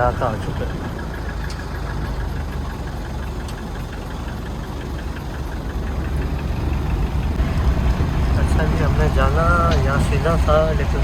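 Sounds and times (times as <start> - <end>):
quick regular ticking: 0.0 - 11.0
truck engine drone from cab: 0.0 - 11.0.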